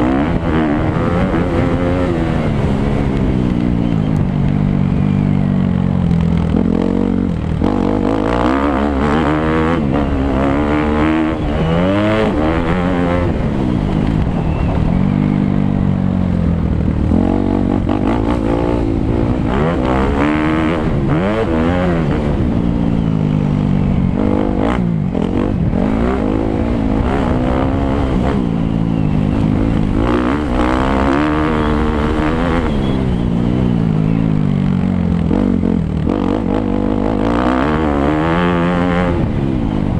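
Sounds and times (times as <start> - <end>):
motocross bike engine revving: 0.0 - 15.5, 16.9 - 39.9.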